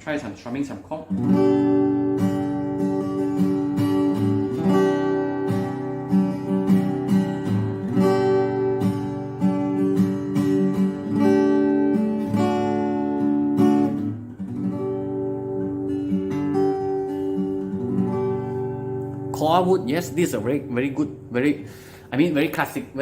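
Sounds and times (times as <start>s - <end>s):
acoustic guitar strummed chords: 1.1s - 22.8s.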